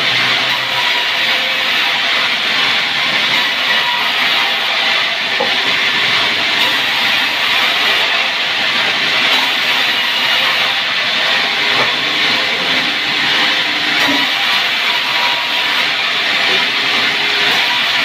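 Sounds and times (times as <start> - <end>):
sawmill saw cutting timber: 0.0 - 18.0.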